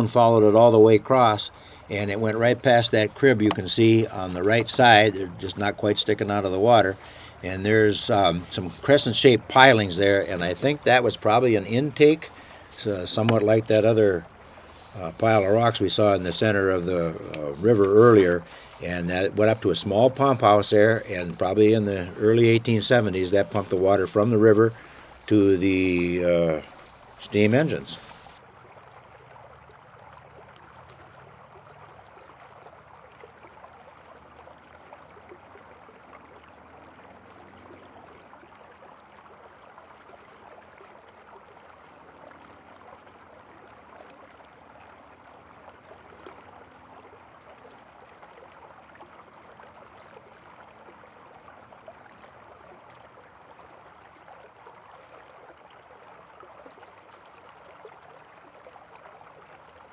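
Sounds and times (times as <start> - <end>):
faint flowing water: 0.0 - 59.9.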